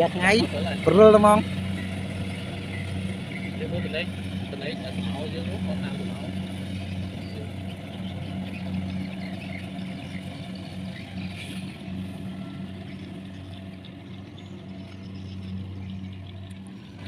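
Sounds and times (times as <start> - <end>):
combine harvester engine hum: 0.0 - 17.0.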